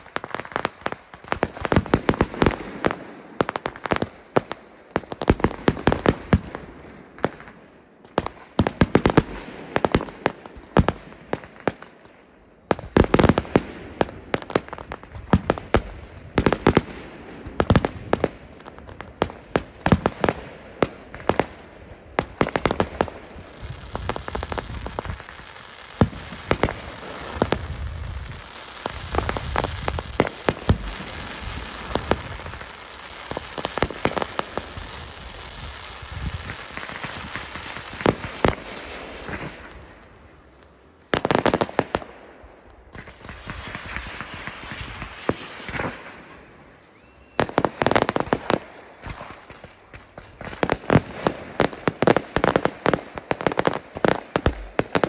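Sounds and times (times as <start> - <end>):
fireworks bangs and pops: 0.0 - 55.0
fireworks crackling: 0.0 - 55.0.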